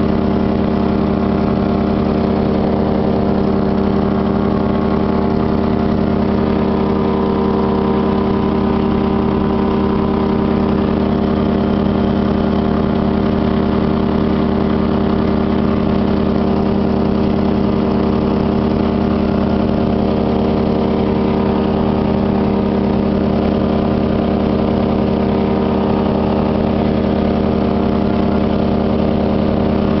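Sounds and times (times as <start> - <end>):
airplane engine droning: 0.0 - 30.0.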